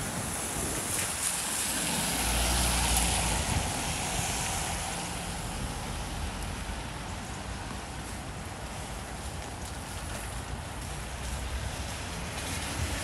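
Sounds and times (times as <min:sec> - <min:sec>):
steady rain: 0:00.0 - 0:13.0
vehicle passing on wet street: 0:00.0 - 0:13.0.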